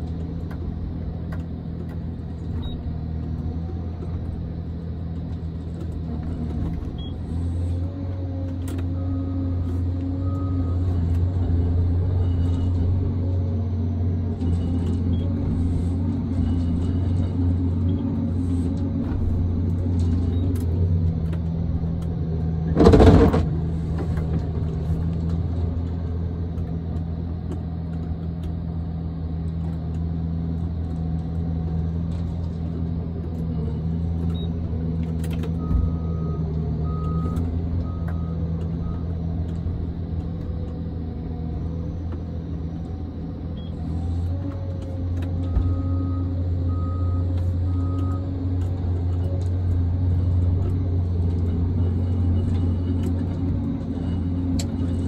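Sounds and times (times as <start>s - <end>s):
diesel engine and hydraulics: 0.0s - 55.0s.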